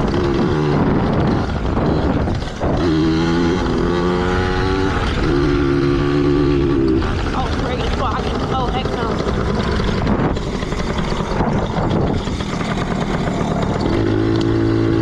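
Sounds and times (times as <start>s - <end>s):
two-stroke engine running: 0.0s - 15.0s.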